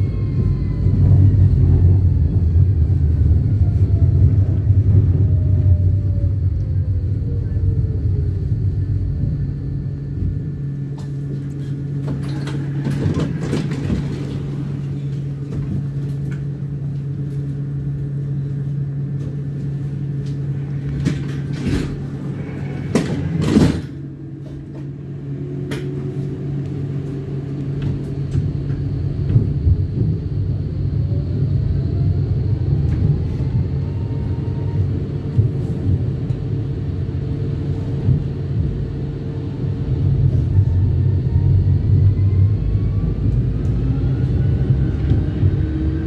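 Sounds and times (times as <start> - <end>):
steady low hum: 0.0 - 46.0
vehicle running rumble: 0.0 - 46.0.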